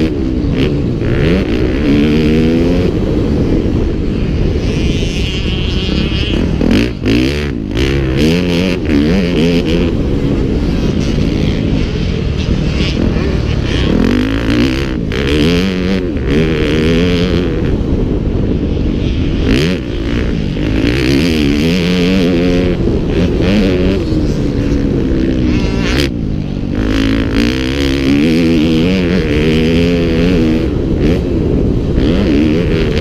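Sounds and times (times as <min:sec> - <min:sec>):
motocross engines revving hard: 0:00.0 - 0:33.0.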